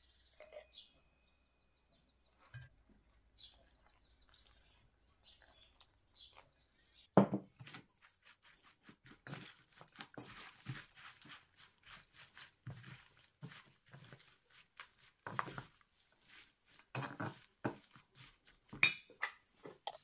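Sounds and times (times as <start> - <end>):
spoon scraping and rustling food: 2.3 - 20.0.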